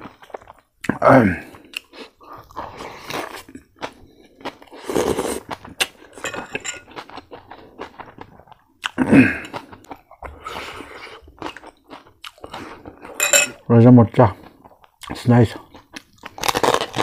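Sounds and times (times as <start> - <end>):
chewing crispy fried pork: 0.0 - 6.2, 6.8 - 13.2, 13.8 - 17.0.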